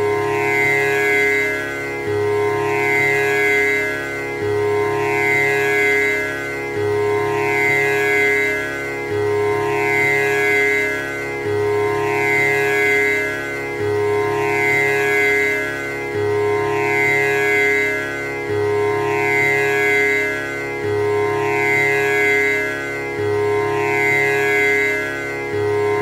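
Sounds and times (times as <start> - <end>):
sustained tanpura drone: 0.0 - 26.0.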